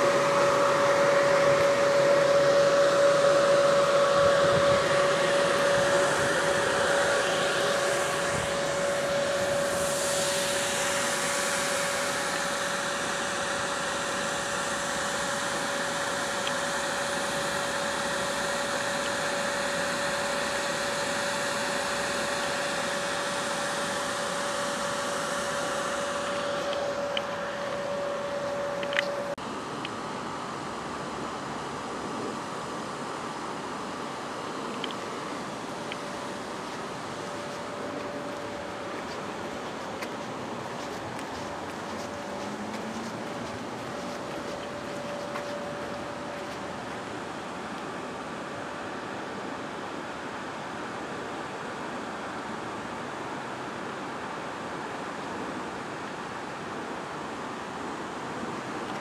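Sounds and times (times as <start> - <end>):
high whine: 0.0 - 51.8
cooling blowers rushing: 0.0 - 59.0.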